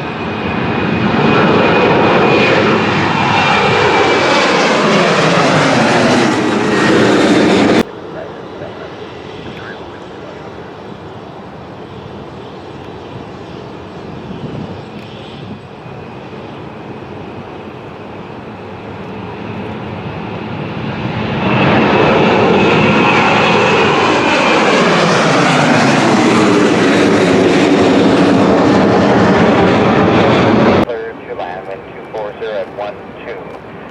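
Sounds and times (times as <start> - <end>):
airplane engine passing: 0.0 - 33.9.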